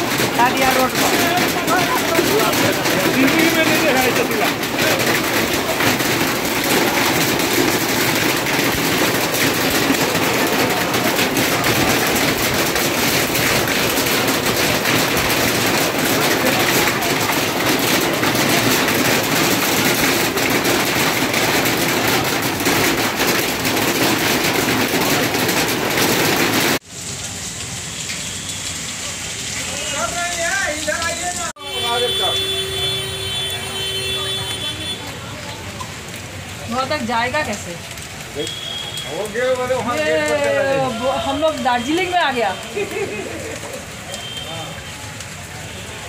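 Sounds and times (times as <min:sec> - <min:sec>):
heavy hail falling: 0:00.0 - 0:46.0.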